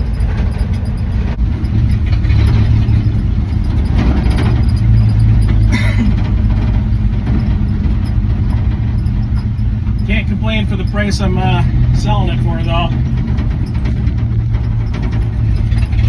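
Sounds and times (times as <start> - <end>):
pickup truck engine running: 0.0 - 16.0
road noise: 0.0 - 16.0.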